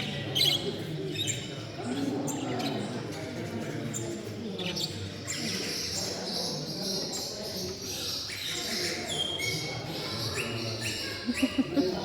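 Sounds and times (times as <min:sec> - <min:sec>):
murmur of voices: 0:00.0 - 0:12.0
small songbirds chirping and twittering: 0:00.0 - 0:12.0.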